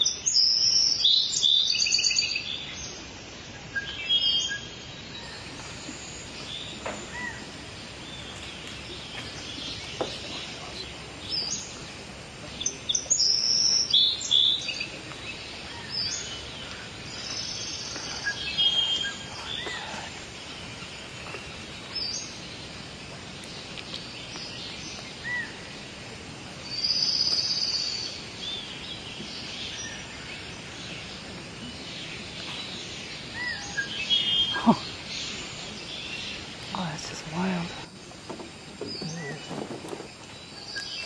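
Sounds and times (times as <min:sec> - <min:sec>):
forest background noise: 0:00.0 - 0:41.0
birds chirping and whistling: 0:03.7 - 0:25.8, 0:26.6 - 0:41.0.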